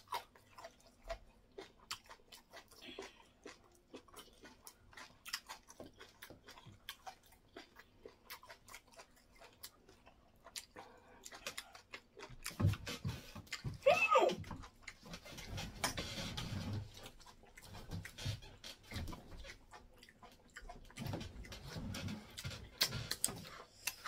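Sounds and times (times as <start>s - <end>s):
chewing with wet lip smacks: 0.0s - 13.8s, 14.4s - 24.0s.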